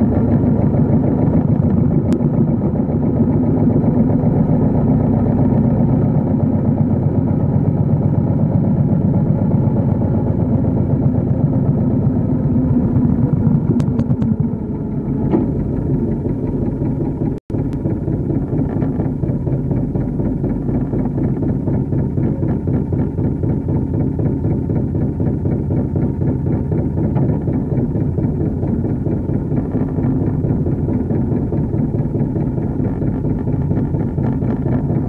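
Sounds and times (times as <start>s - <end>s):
motor boat engine chugging: 0.0s - 35.0s.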